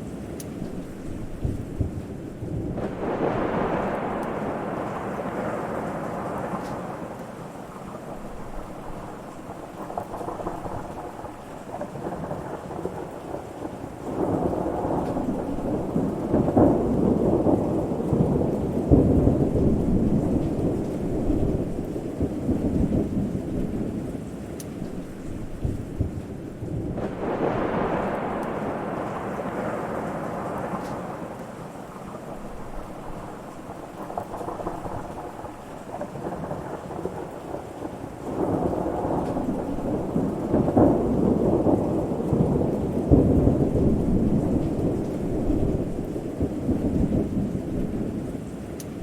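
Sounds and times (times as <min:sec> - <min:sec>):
steady rain: 0:00.0 - 0:49.0
thunder rumbling: 0:00.6 - 0:49.0.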